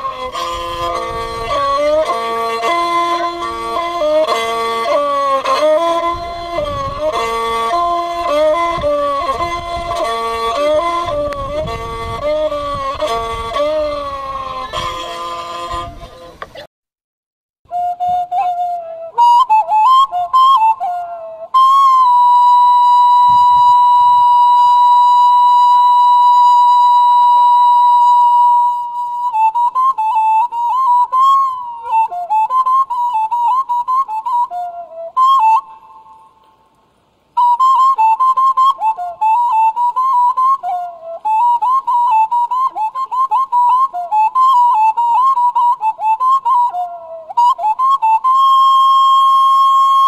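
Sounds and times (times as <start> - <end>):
solo flute melody: 0.0 - 16.4, 17.7 - 50.0.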